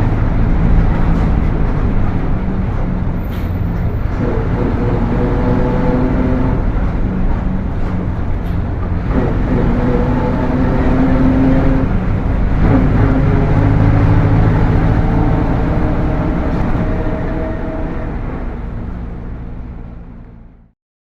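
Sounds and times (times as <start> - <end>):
bus engine hum: 0.0 - 20.7
bus transmission whine: 0.0 - 20.7.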